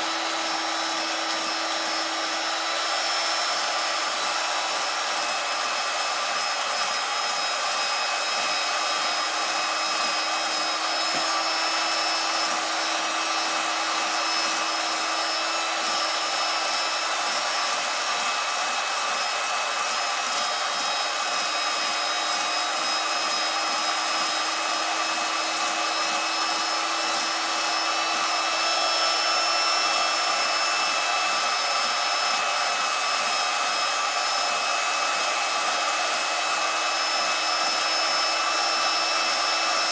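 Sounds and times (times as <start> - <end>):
motor whirring: 0.0 - 39.9.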